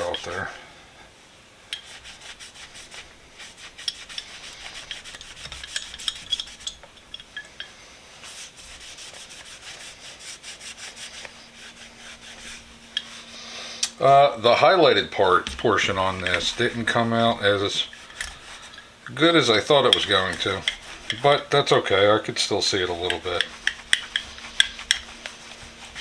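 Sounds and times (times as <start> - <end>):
cloth wiping metal: 0.0 - 0.6, 1.7 - 26.0.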